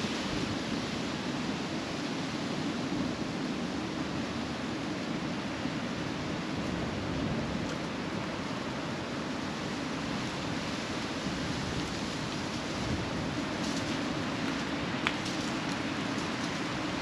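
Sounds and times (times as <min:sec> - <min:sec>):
city ambience rushing noise: 0:00.0 - 0:17.0.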